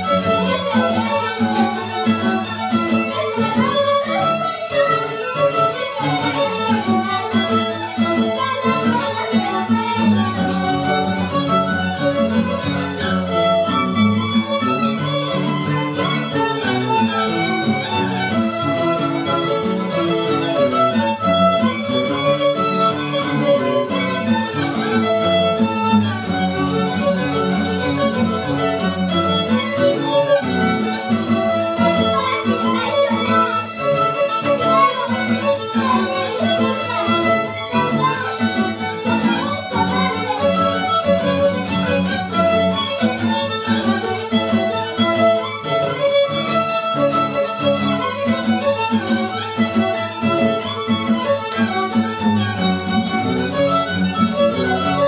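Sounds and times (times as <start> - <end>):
strummed acoustic guitars: 0.0 - 55.0
violins playing melody: 0.0 - 55.0.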